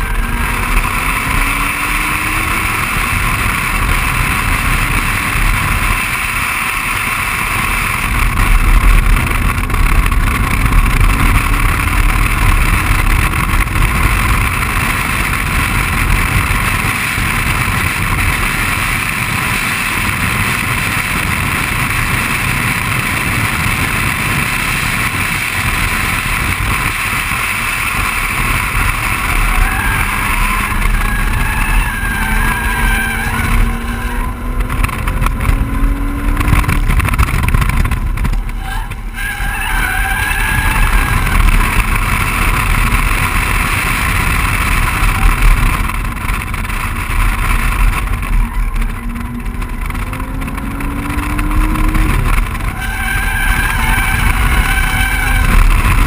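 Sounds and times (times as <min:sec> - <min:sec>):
car engine accelerating: 0:00.0 - 0:56.0
wind noise on camera: 0:00.0 - 0:56.0.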